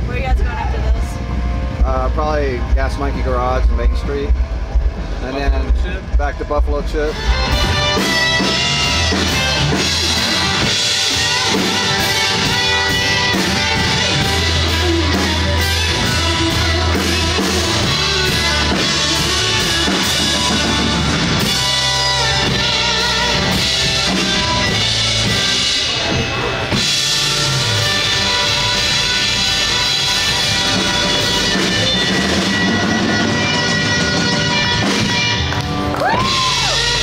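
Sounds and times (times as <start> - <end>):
rock music: 0.0 - 37.0.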